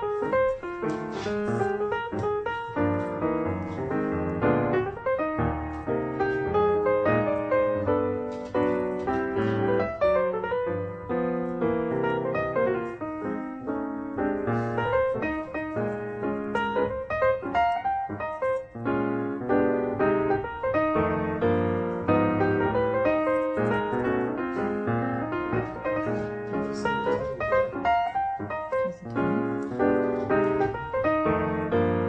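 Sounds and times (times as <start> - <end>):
bouncy piano music: 0.0 - 32.0.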